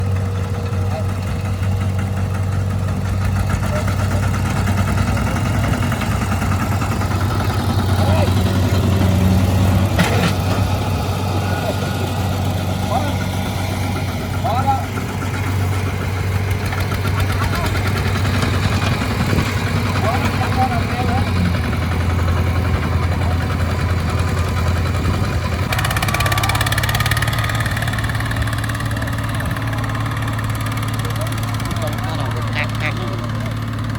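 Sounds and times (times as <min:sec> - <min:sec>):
farm machinery engine humming: 0:00.0 - 0:33.9.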